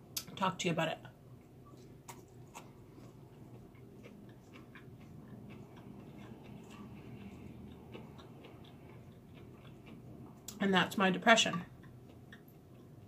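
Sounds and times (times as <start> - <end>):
chewing food: 1.4 - 13.0.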